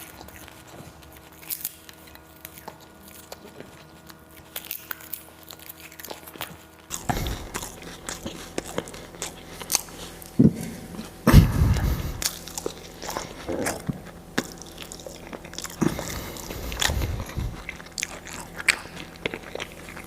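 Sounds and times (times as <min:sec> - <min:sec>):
close chewing and biting: 0:00.0 - 0:20.0.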